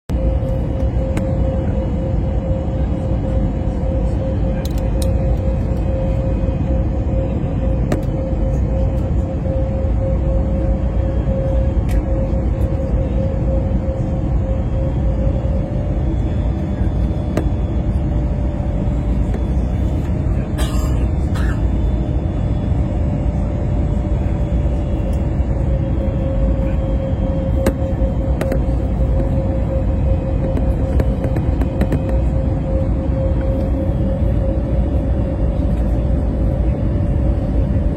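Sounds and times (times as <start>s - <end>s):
airliner cabin rumble: 0.1s - 37.9s
even hum: 0.1s - 37.9s.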